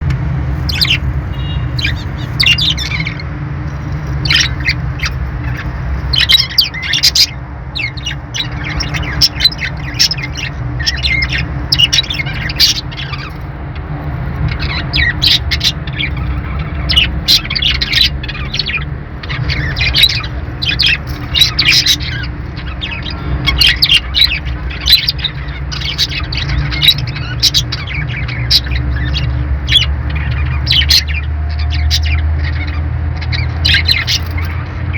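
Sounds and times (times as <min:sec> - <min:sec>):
steady low hum: 0:00.0 - 0:34.9
budgies chirping and squawking: 0:00.4 - 0:34.9.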